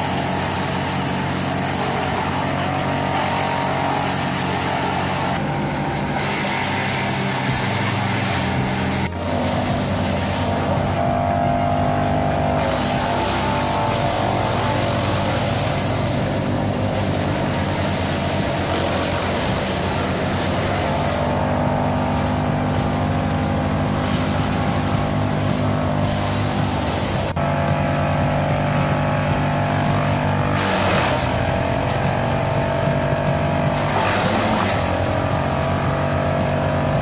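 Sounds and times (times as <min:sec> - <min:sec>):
branches being chipped: 0:00.0 - 0:37.0
diesel engine running: 0:00.0 - 0:37.0.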